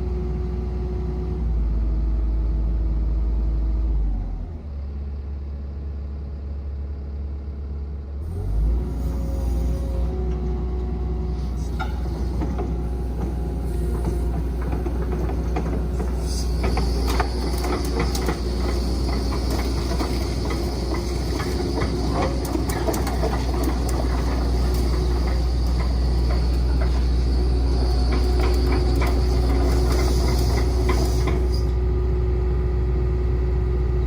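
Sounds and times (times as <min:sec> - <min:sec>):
excavator engine drone: 0:00.0 - 0:34.0.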